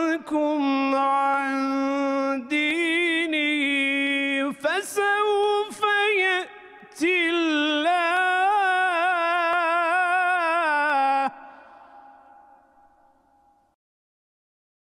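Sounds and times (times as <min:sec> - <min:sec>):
man chanting melodically: 0:00.0 - 0:12.6.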